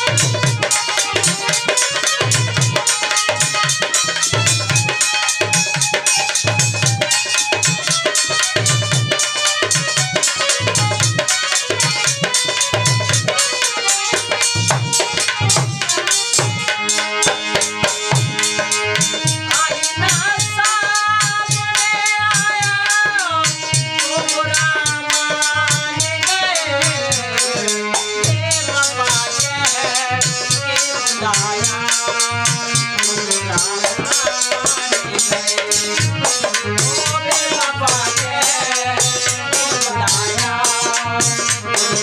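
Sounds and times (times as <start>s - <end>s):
hand drum beats: 0.0s - 42.0s
harmonium chords and melody: 0.0s - 42.0s
man singing: 0.0s - 42.0s.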